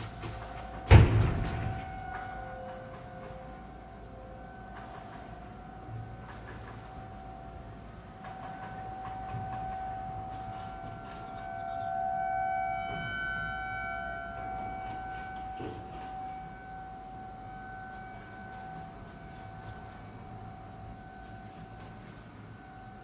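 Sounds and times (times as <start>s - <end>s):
tornado warning siren wailing: 0.0s - 23.0s.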